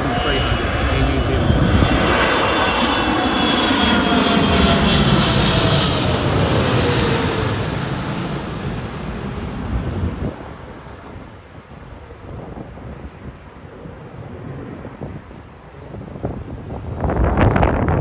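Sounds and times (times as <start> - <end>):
jet engine whining overhead: 0.0 - 18.0.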